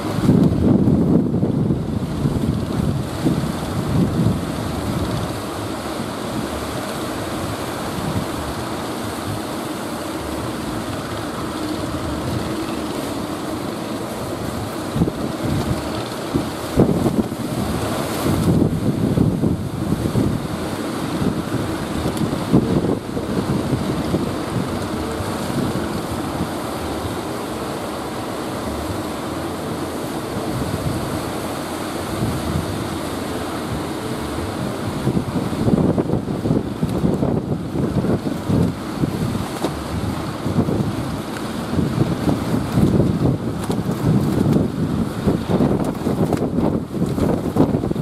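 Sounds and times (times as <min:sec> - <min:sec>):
waves breaking and surf: 0:00.0 - 0:48.0
wind buffeting microphone: 0:00.0 - 0:48.0.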